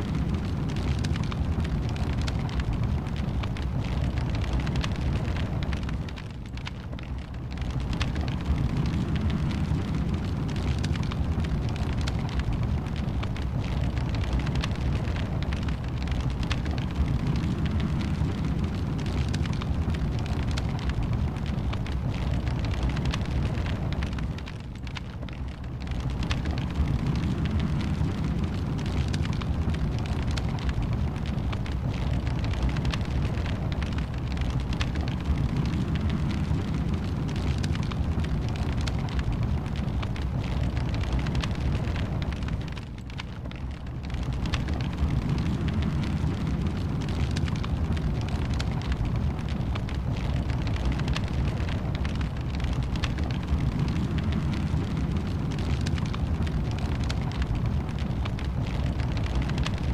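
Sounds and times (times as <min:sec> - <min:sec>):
low rumble: 0:00.0 - 0:59.9
wood fire crackling: 0:00.0 - 0:59.9.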